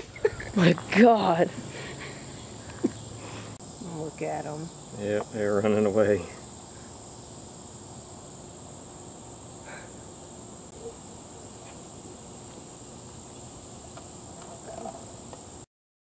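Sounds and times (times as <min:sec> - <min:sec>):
crickets trilling: 0:00.0 - 0:15.7
faint outdoor background noise: 0:00.0 - 0:15.7.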